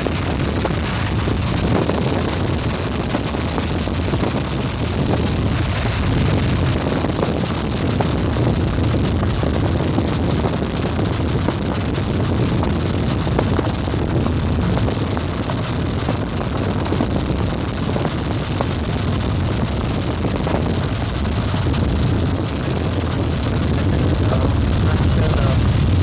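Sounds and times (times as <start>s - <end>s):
wind and vehicle rumble: 0.0s - 26.0s
wind buffeting microphone: 0.0s - 26.0s.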